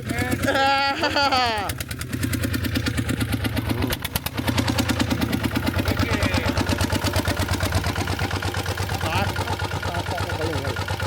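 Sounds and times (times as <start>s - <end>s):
walking tractor engine putter: 1.4s - 11.0s.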